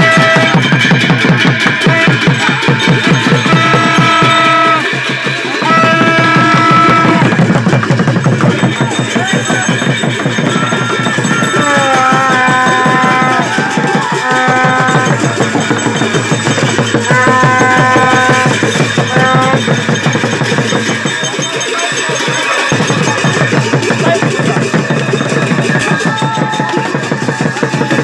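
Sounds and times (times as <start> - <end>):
drums beating: 0.0 - 28.0
hand cymbals clashing: 0.0 - 28.0.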